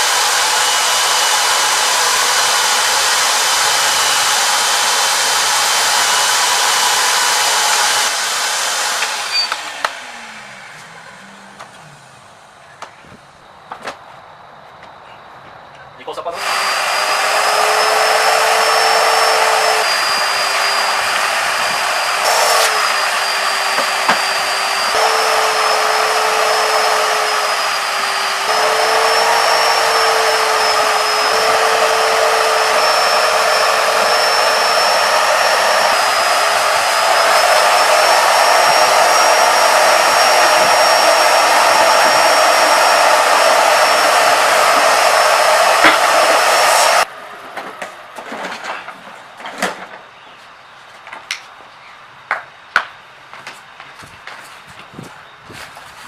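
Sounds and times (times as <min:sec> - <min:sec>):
shop vacuum motor whining: 0:00.0 - 0:13.2, 0:16.3 - 0:48.9.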